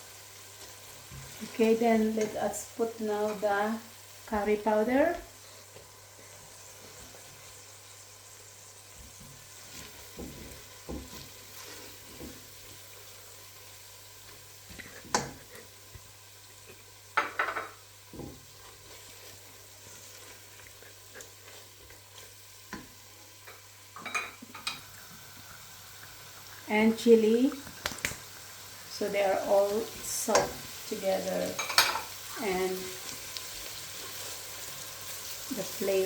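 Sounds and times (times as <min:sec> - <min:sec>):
onions sizzling in a pan: 0:00.0 - 0:36.0.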